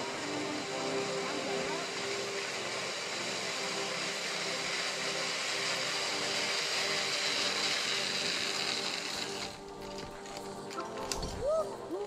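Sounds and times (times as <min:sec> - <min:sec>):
zipline pulleys whirring on cable: 0:00.0 - 0:12.0.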